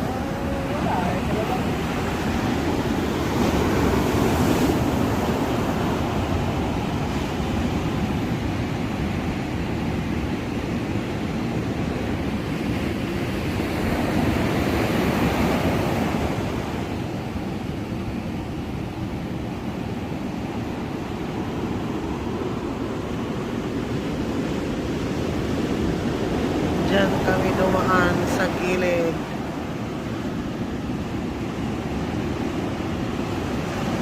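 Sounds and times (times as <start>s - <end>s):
ocean surf washing on shore: 0.0s - 34.0s.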